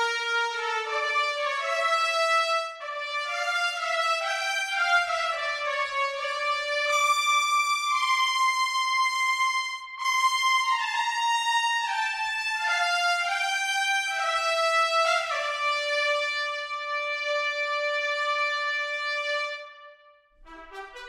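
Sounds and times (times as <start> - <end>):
trumpets playing sustained notes: 0.0 - 21.0.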